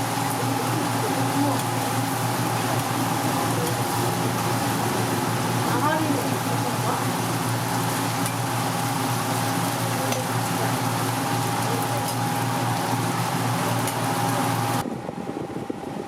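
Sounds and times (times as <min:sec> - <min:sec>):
pancakes sizzling on a griddle: 0:00.0 - 0:14.8
steady hum: 0:00.0 - 0:16.0.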